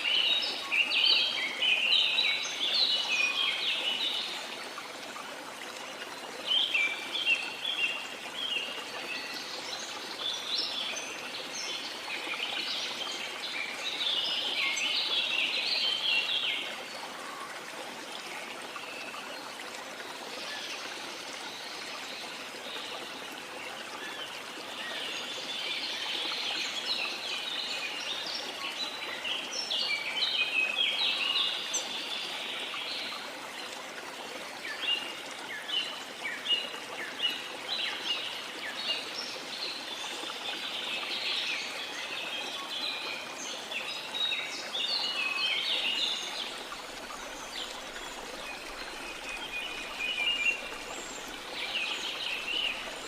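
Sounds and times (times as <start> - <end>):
songbirds chirping: 0.0 - 53.0
stream flowing: 0.0 - 53.0.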